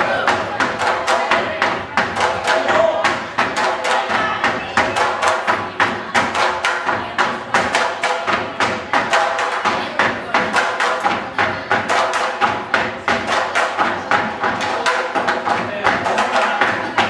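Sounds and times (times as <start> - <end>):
folk dance music: 0.0 - 17.0.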